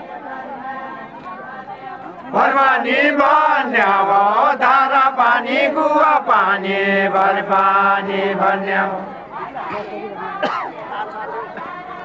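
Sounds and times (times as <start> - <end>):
men singing unaccompanied: 0.2 - 12.0.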